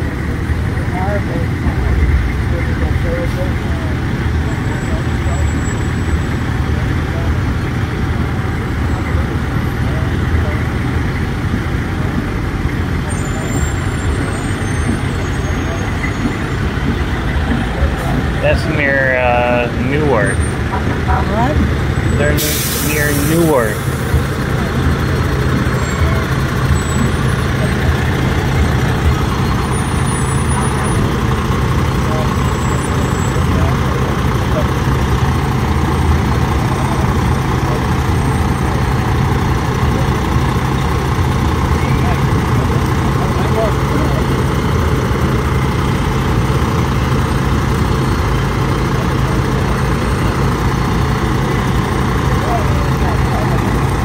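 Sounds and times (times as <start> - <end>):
truck engine rumbling past: 0.0 - 54.0.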